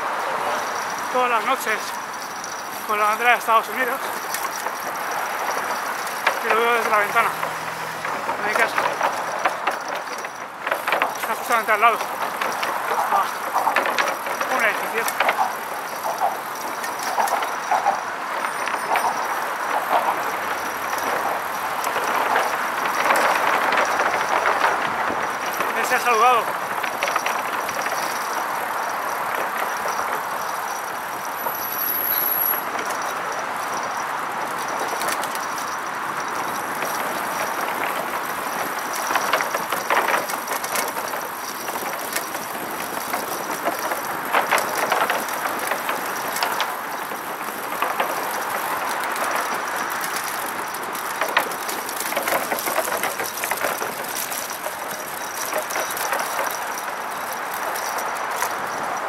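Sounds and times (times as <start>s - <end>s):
bicycle tyre and air noise: 0.0s - 59.0s
bike clicking and rattling: 0.0s - 59.0s.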